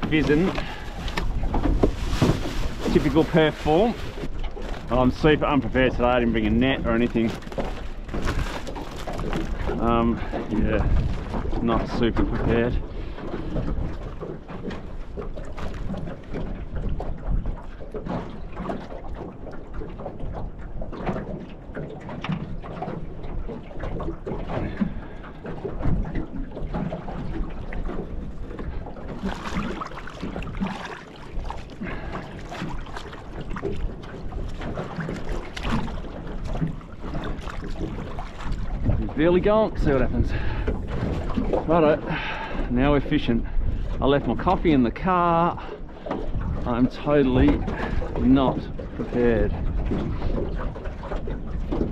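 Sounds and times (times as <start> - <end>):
knocks and splashes: 0.0 - 51.9
waves slapping boat hull: 0.0 - 51.9
wind buffeting microphone: 0.0 - 51.9.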